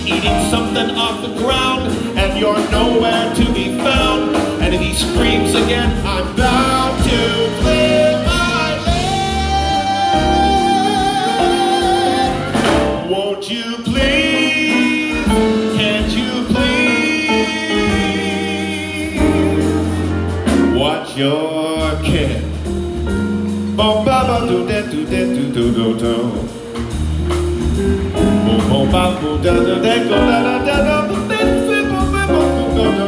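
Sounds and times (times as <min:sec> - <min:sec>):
man singing into a microphone: 0:00.0 - 0:19.9, 0:20.6 - 0:22.6, 0:23.8 - 0:26.6, 0:28.2 - 0:33.0
big band jazz: 0:00.0 - 0:33.0.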